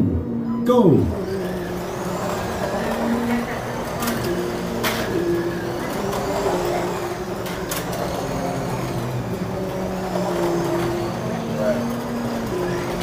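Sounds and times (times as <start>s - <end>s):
slot car motors whining: 0.0s - 13.0s.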